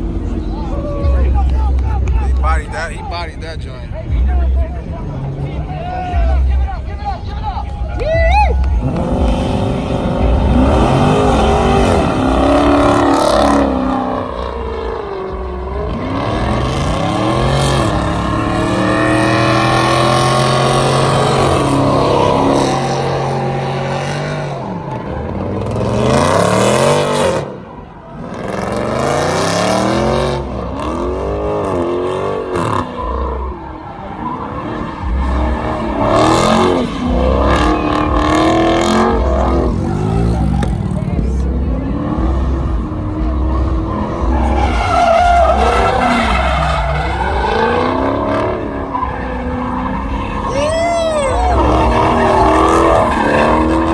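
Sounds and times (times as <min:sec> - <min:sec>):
car engines revving hard: 0:00.0 - 0:53.9.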